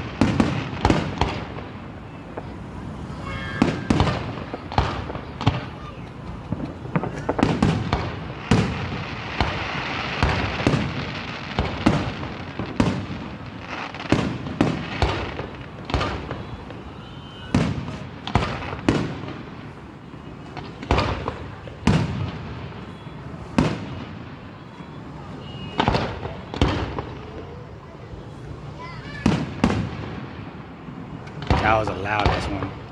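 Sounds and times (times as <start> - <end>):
firework shells booming: 0.0 - 27.6, 29.0 - 32.9
firework crackle: 0.0 - 32.9.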